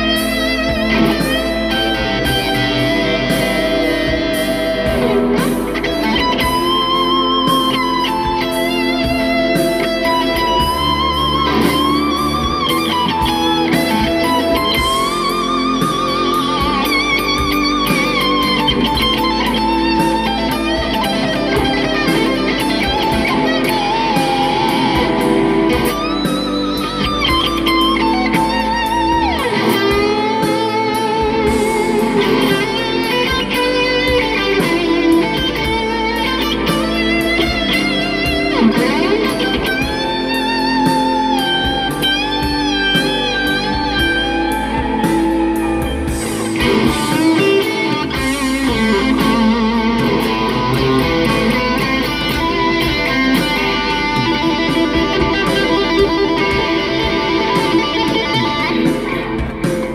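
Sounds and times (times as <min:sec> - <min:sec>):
backing track: 0:00.0 - 0:59.9
electric guitar lead solo: 0:00.0 - 0:59.9.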